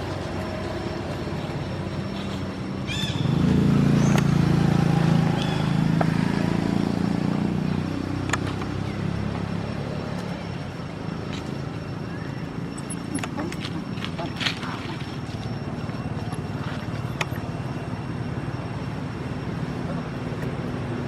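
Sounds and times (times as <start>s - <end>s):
vehicle engine rumble passing: 0.0s - 21.0s.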